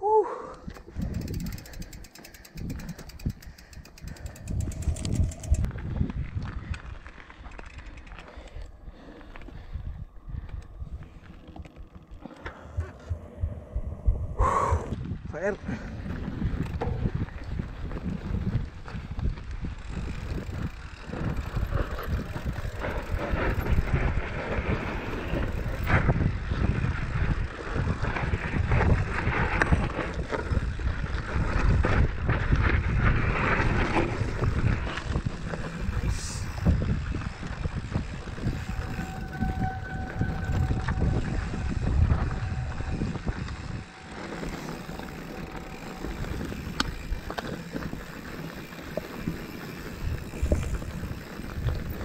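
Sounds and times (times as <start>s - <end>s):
wind rumble on microphone: 0.6s - 52.0s
bike rattling and knocking: 0.7s - 8.7s, 15.9s - 52.0s.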